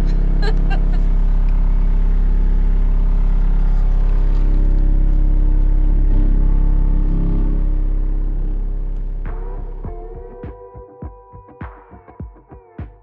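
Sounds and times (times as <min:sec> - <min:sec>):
loader engine running: 0:00.0 - 0:10.7.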